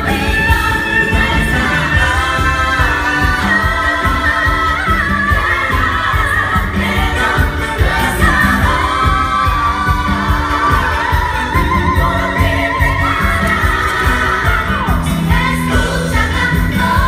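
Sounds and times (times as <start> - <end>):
band accompaniment: 0.0 - 17.0
women singing with vibrato: 0.0 - 17.0.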